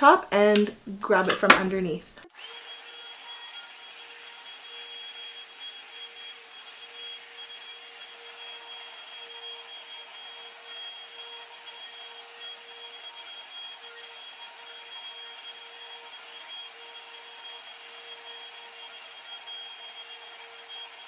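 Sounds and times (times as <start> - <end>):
hot air brush running: 2.2 - 21.0.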